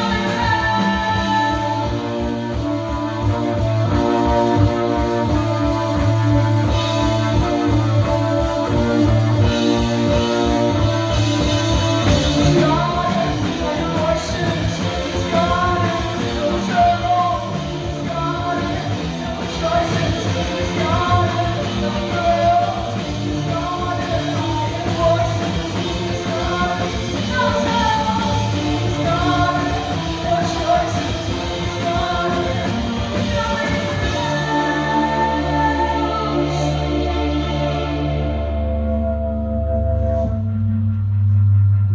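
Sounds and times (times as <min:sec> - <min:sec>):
fast drum beat: 0:00.0 - 0:38.0
person singing: 0:00.0 - 0:39.2
live rock band playing: 0:00.0 - 0:41.8.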